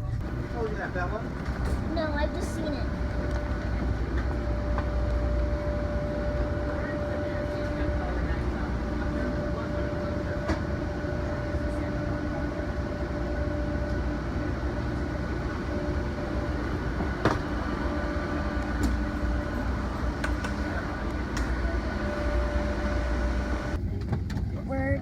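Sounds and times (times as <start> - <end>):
airliner cabin rumble and hum: 0.0 - 25.0.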